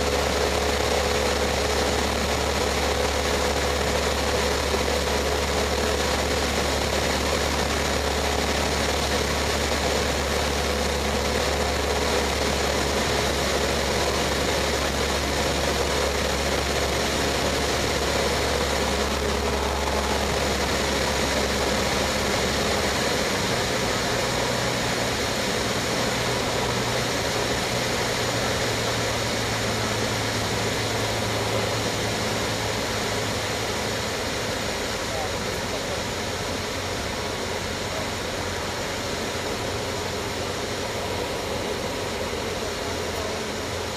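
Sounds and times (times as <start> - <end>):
propeller plane engine droning: 0.0 - 43.9.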